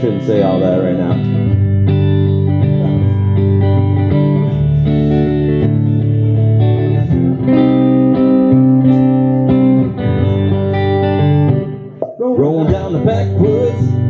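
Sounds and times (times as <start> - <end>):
electric guitar: 0.0 - 14.0
live band playing country music: 0.0 - 14.0.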